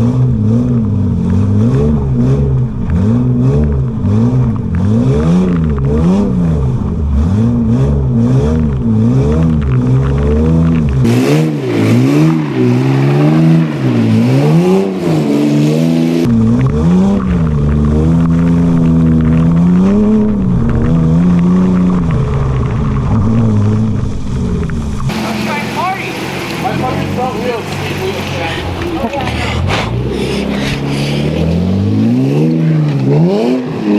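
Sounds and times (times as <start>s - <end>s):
engine revving: 0.0s - 33.9s.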